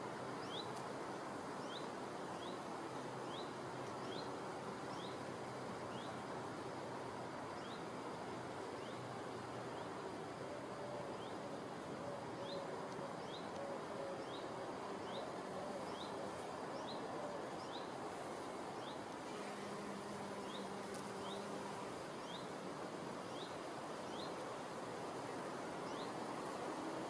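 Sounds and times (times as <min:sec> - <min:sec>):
outdoor hiss: 0:00.0 - 0:27.0.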